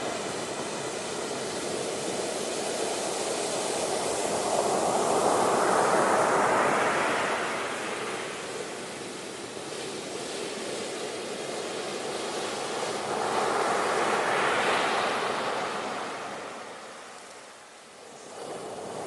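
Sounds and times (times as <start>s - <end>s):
ocean surf: 0.0s - 19.0s.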